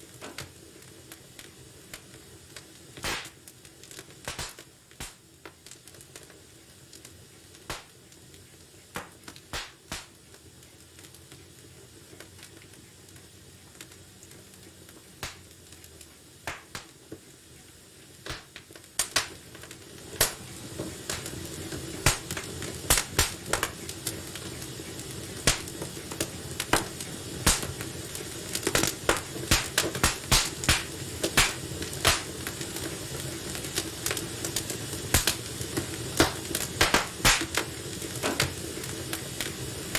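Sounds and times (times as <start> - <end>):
low hiss of burning: 0.0 - 39.9
sharp pops of fire: 0.0 - 39.9
wood fire crackling: 0.0 - 39.9.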